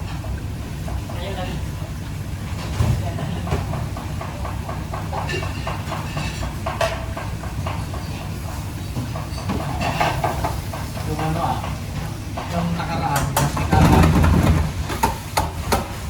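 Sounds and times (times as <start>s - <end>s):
utensils and dishes clattering: 2.5s - 15.9s.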